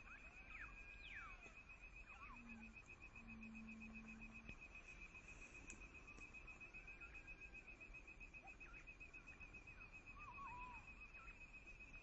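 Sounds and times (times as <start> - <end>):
insect pulsing trill: 0.0 - 12.0.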